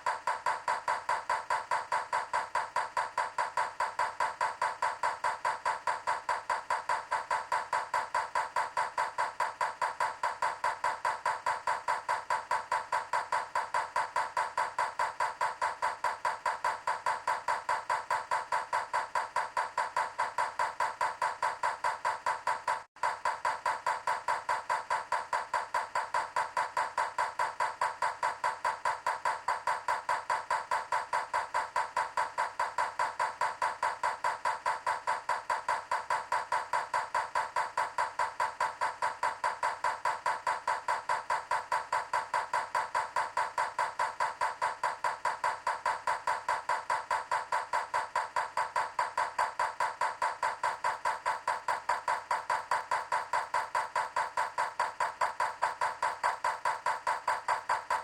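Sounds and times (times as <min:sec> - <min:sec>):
rapid even ticking: 0:00.0 - 0:58.0.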